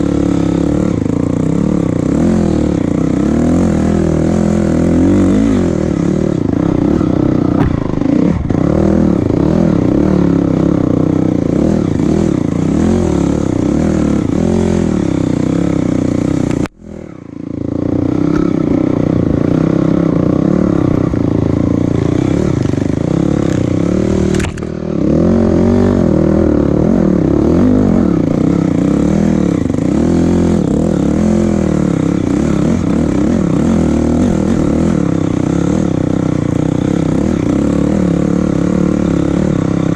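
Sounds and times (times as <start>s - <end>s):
vehicle engine running under load: 0.0s - 39.9s.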